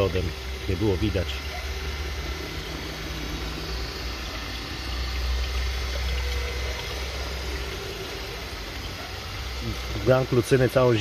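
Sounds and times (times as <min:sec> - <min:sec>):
pond filter humming: 0:00.0 - 0:11.0.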